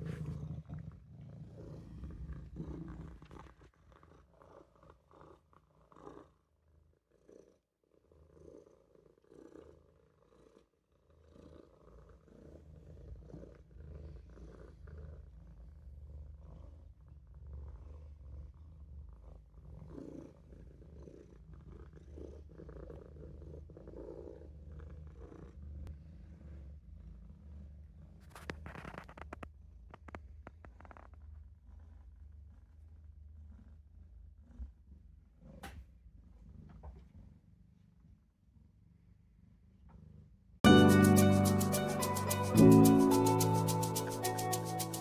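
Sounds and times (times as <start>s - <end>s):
kitten purring: 0.0s - 25.9s, 26.5s - 38.0s.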